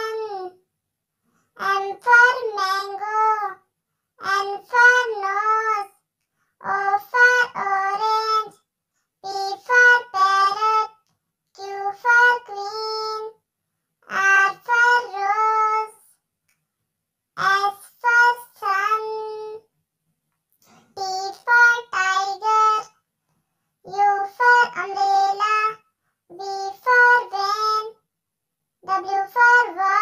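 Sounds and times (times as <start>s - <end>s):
child chanting: 0.0s - 0.6s, 1.6s - 16.2s, 17.4s - 19.7s, 20.7s - 23.0s, 23.8s - 28.0s, 28.8s - 30.0s.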